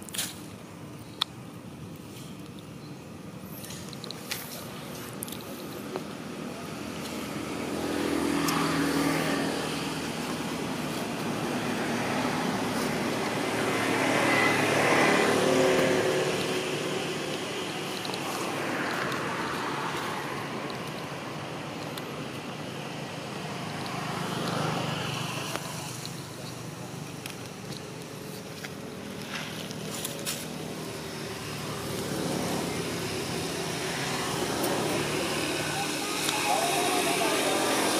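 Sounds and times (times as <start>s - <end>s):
motor vehicles passing: 1.6s - 37.9s.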